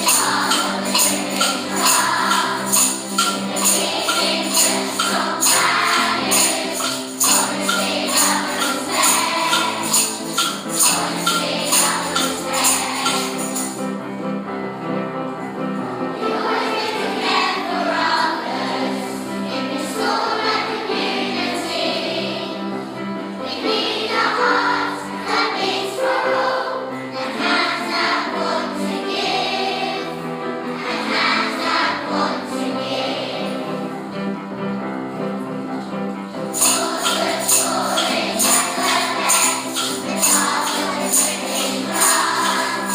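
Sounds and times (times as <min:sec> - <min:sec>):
choir singing: 0:00.0 - 0:13.9, 0:16.1 - 0:34.2, 0:36.5 - 0:42.9
instrumental accompaniment: 0:00.0 - 0:42.9.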